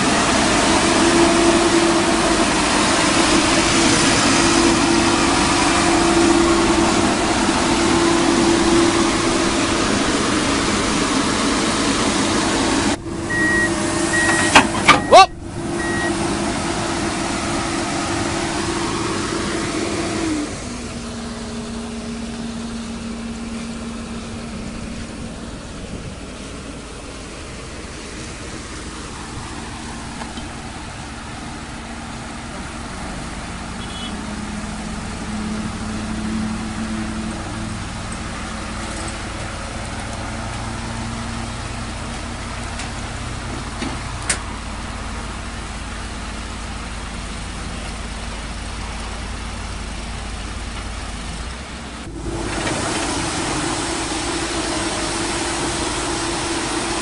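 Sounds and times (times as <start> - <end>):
excavator diesel engine: 0.0 - 57.0.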